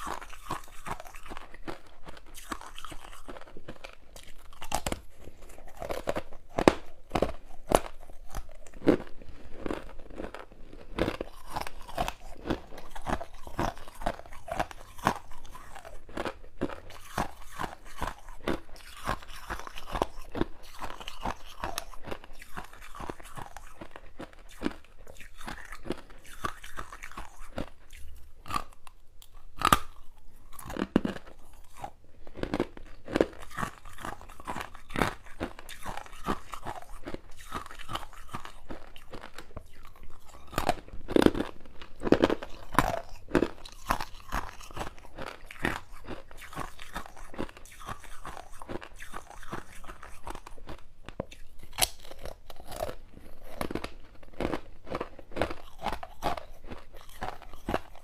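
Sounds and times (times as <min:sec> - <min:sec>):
crunching and chewing frost: 0:00.0 - 0:58.0.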